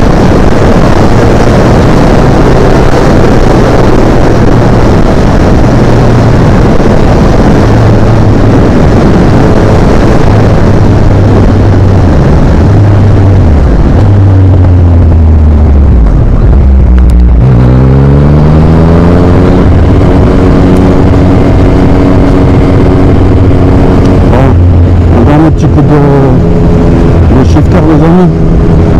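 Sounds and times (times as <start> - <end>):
motorcycle engine running: 0.0 - 28.9
wind rush on microphone: 0.0 - 28.9.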